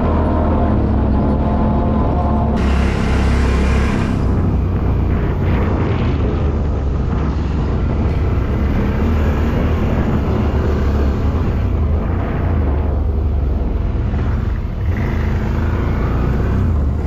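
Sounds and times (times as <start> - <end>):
off-road engines rumbling: 0.0 - 17.0.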